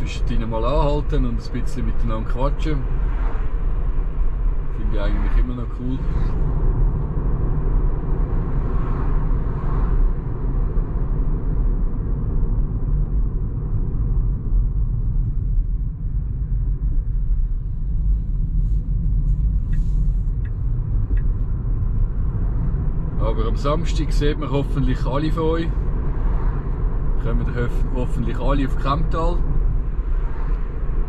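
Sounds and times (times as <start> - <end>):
road and tyre rumble in car: 0.0 - 31.0.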